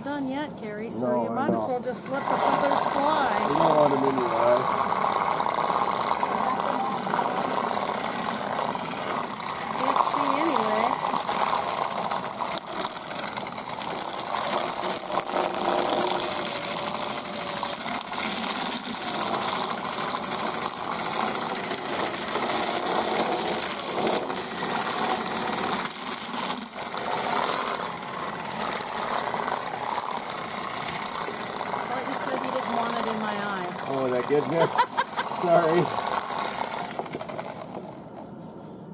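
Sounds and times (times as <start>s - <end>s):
chicken plucker motor running: 1.1s - 38.3s.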